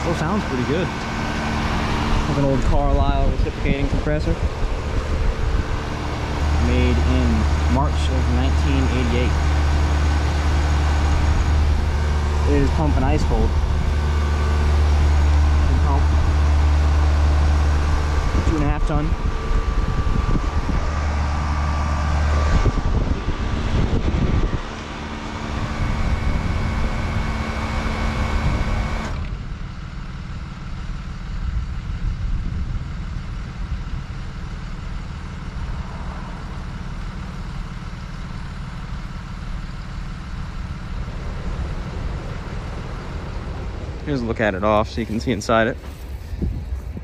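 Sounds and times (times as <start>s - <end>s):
low rumble: 0.0s - 29.6s, 31.3s - 47.0s
heat pump humming: 0.0s - 47.0s.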